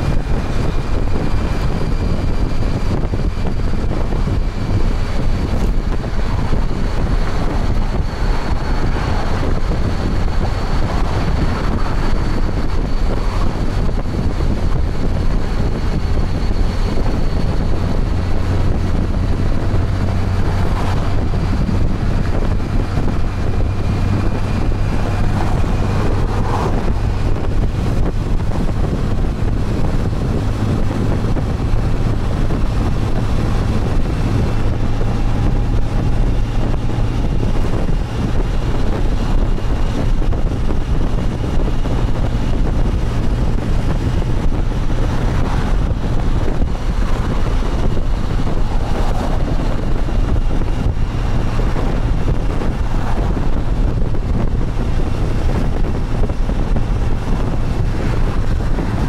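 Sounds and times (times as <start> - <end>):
motorcycle engine drone: 0.0 - 59.0
wind buffeting microphone: 0.0 - 59.0.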